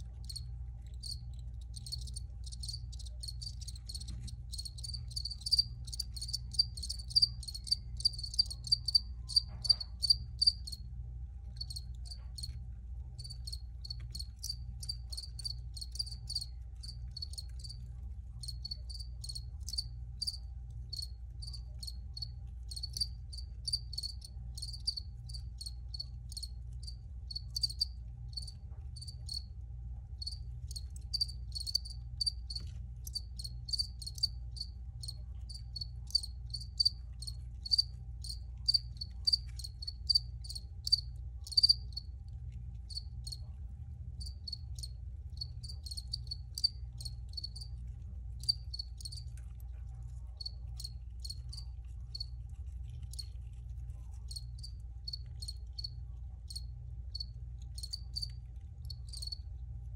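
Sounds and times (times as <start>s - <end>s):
crickets chirping: 1.0s - 10.8s, 11.6s - 12.5s, 13.2s - 17.8s, 18.4s - 29.5s, 30.2s - 42.1s, 42.9s - 43.4s, 44.2s - 47.7s, 48.4s - 49.2s, 50.4s - 52.2s, 54.3s - 55.9s, 56.5s - 59.4s.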